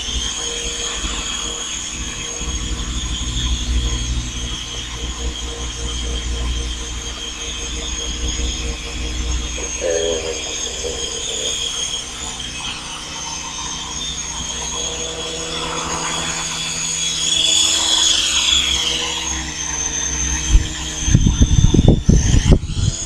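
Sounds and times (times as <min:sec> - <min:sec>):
model helicopter rotors whining: 0:00.0 - 0:23.0.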